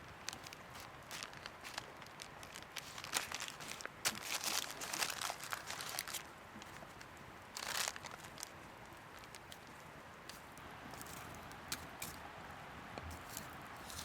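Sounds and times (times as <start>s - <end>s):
crisp crunching and rustling: 0.0s - 12.2s, 13.0s - 14.0s.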